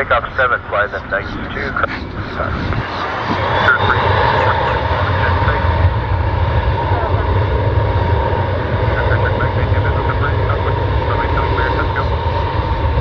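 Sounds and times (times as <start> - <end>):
airplane engine rumble: 0.0 - 13.0
engine whine: 0.0 - 13.0.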